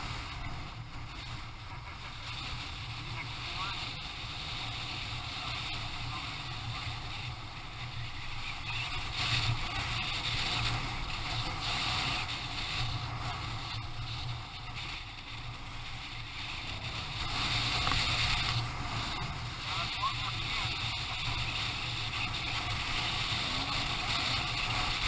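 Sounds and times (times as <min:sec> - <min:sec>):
motorcycle engine running: 0:00.0 - 0:25.0
wind noise: 0:00.0 - 0:25.0.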